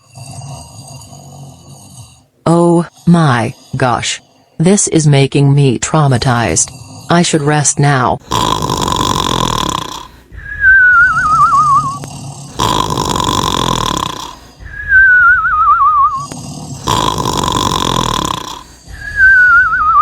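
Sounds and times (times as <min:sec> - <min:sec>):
cartoon rasping snore: 0:00.0 - 0:04.2, 0:06.3 - 0:07.6, 0:08.2 - 0:20.0.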